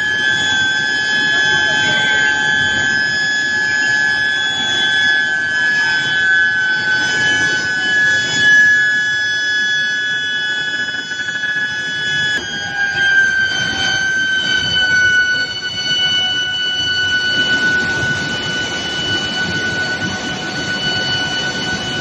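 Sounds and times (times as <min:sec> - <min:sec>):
induction heater whining: 0:00.0 - 0:22.0.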